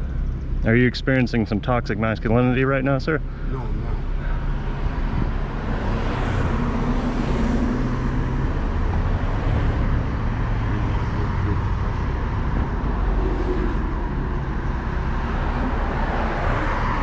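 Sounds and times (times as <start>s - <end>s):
car engine running: 0.0s - 17.0s
faint engine hum: 0.0s - 17.0s
road rumble: 0.0s - 17.0s.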